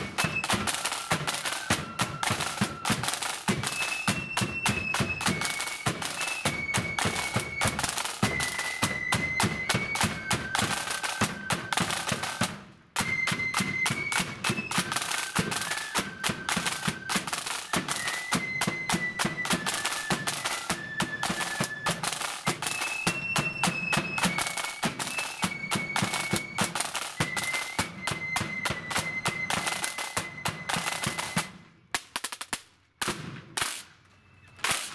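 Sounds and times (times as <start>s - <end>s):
flutes playing melody: 0.0s - 31.8s
side drums: 0.0s - 33.9s.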